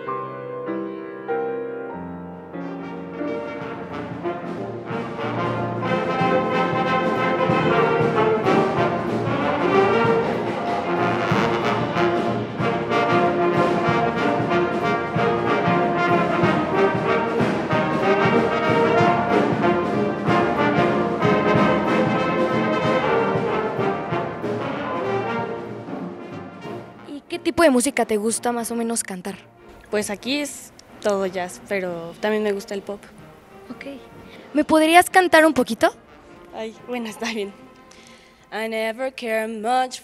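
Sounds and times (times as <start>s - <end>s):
jazz big band playing: 0.0s - 38.4s.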